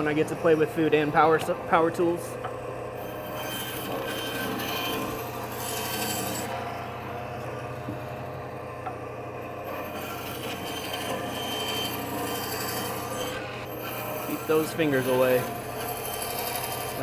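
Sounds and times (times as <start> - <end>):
band saw rasping through bone: 0.0 - 1.7, 3.0 - 7.6, 9.6 - 17.0
saw motor humming: 0.0 - 17.0.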